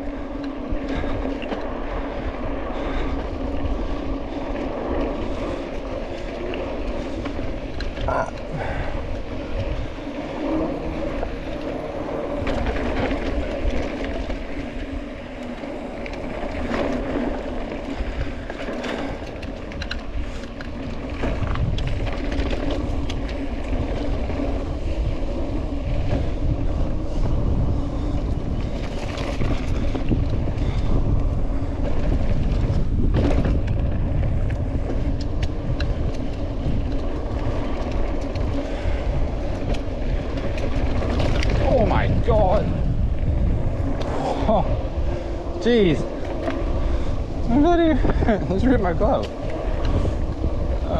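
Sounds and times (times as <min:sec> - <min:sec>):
engine drone: 0:00.0 - 0:50.9
wind rumbling on microphone: 0:00.0 - 0:50.9.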